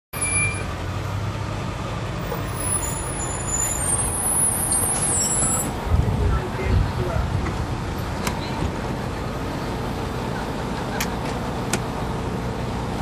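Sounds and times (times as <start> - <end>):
diesel engine humming: 0.2 - 13.0.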